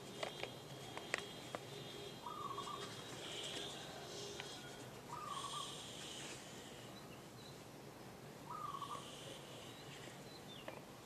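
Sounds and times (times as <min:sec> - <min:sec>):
bird calling faintly: 0:00.0 - 0:07.6, 0:08.4 - 0:10.8.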